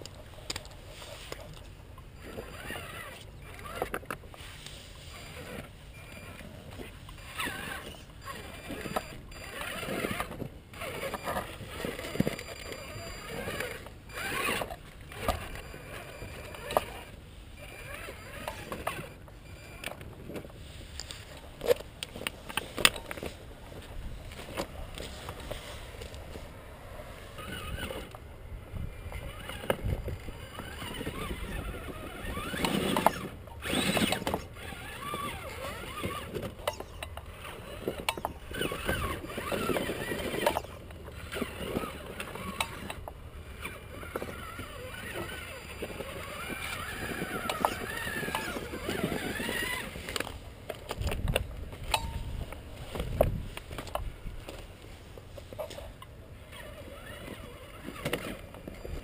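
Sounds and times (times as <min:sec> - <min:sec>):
electric motor whining: 0:00.5 - 0:54.6, 0:56.4 - 0:59.0.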